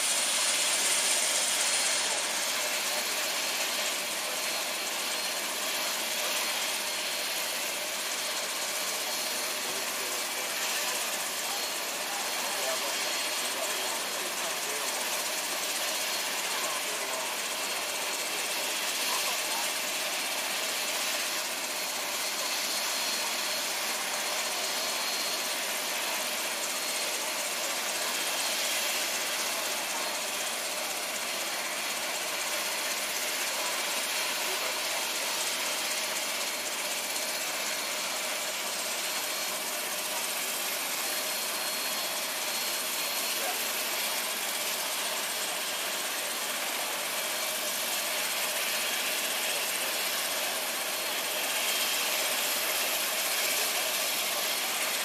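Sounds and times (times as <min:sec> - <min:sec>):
engine drone with hiss: 0:00.0 - 0:55.0.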